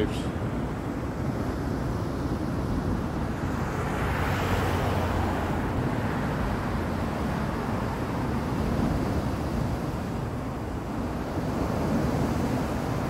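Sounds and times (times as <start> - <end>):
waves breaking on shore: 0.0 - 13.0
wind rumble on microphone: 0.0 - 13.0.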